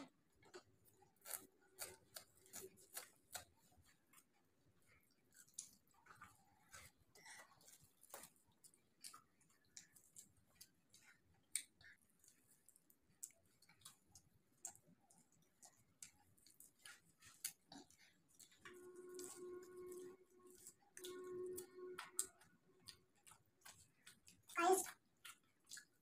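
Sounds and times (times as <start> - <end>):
crunchy pastry being chewed: 0.0 - 26.0.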